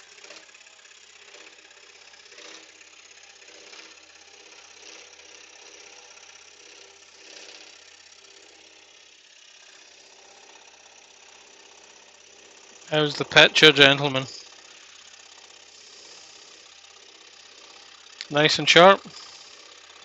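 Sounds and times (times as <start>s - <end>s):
scroll saw cutting wood: 0.0s - 20.0s.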